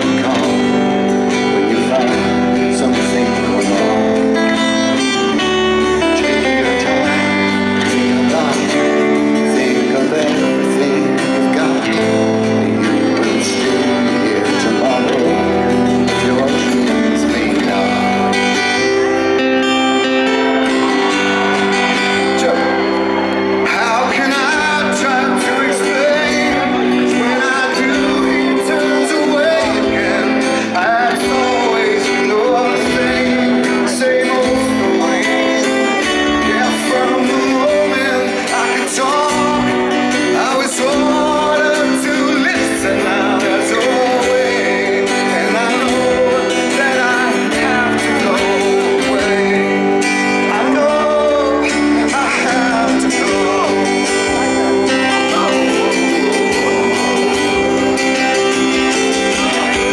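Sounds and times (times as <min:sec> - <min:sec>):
acoustic guitars strumming: 0:00.0 - 0:59.9
man singing: 0:00.0 - 0:59.9.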